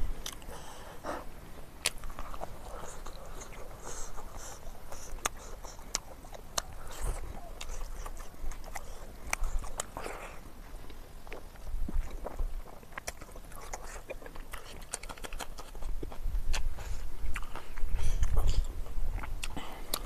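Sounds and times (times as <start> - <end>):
person chewing with mouth smacks: 0.0 - 20.0.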